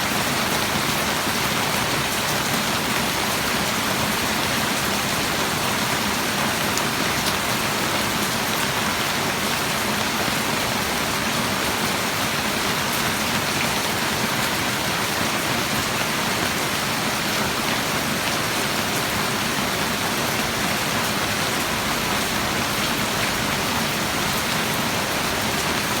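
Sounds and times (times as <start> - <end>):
heavy rain pattering: 0.0 - 26.0.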